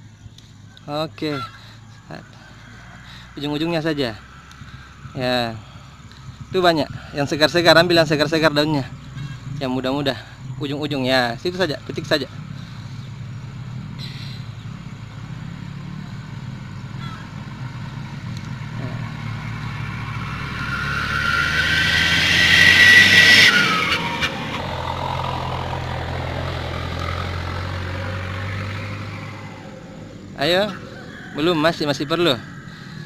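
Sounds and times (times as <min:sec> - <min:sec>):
vehicle engine passing by: 0:02.1 - 0:33.0
low engine hum: 0:03.9 - 0:31.4.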